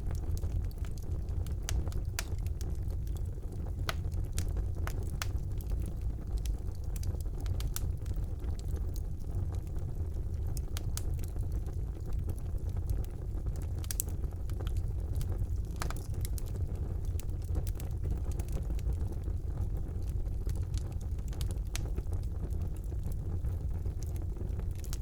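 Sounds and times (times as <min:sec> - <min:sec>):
fire flames rumbling: 0:00.0 - 0:25.0
logs crackling and popping: 0:00.0 - 0:25.0.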